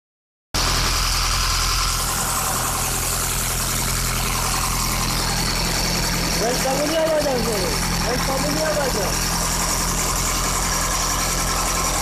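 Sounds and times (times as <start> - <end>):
mud pump humming: 0.6 - 12.0.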